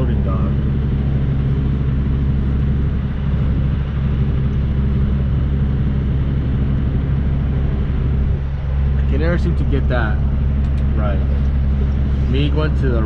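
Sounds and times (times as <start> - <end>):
diesel truck engine idling low: 0.0 - 13.0.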